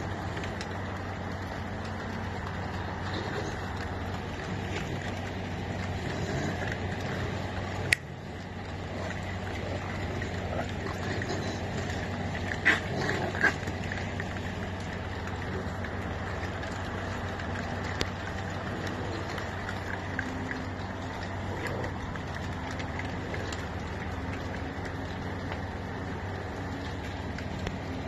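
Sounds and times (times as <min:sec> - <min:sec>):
animals crunching dry feed: 0:00.0 - 0:28.0
low steady hum: 0:00.0 - 0:28.0.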